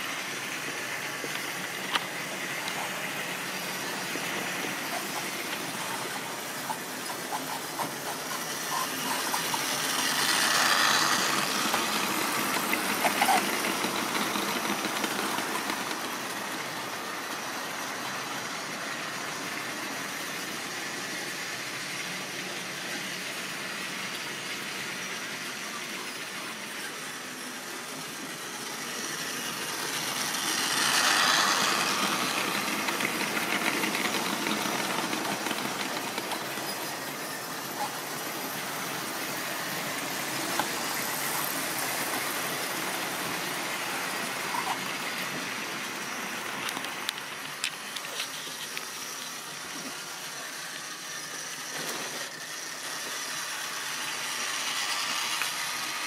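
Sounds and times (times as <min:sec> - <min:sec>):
model trains running on track: 0:00.0 - 0:56.0.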